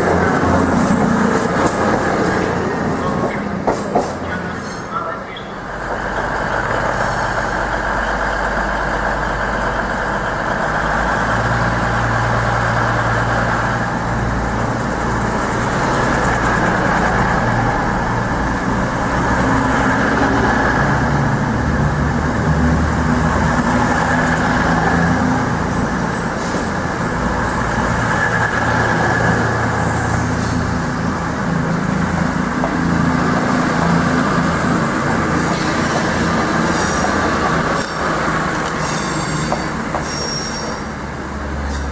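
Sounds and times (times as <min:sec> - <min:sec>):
diesel train engines droning: 0:00.0 - 0:41.9.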